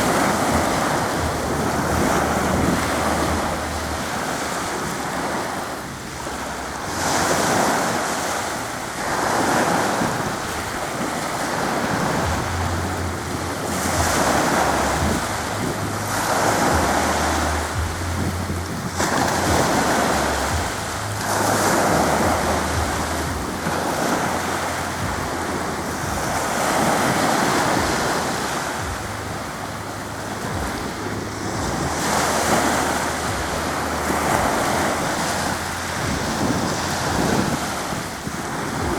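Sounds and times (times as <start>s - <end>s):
sea waves washing onto shore: 0.0s - 38.9s
wind buffeting microphone: 0.0s - 38.9s.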